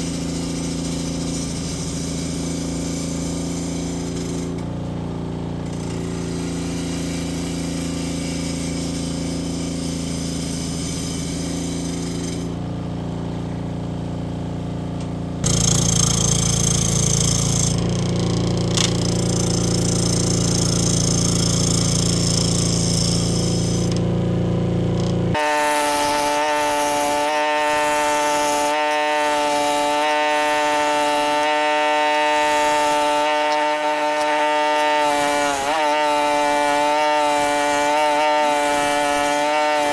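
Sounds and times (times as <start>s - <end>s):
power tool humming on wood: 0.0s - 12.6s, 15.0s - 39.9s
high-pitched motor whine: 0.0s - 39.9s.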